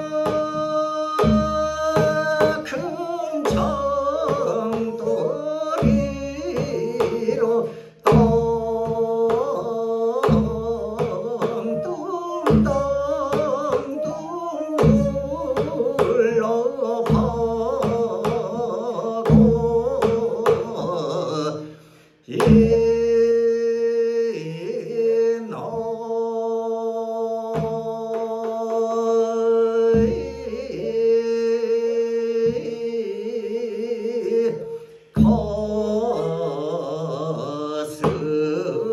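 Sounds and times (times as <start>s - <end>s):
bamboo flute: 0.0s - 21.6s, 27.5s - 38.9s
person singing: 0.0s - 38.9s.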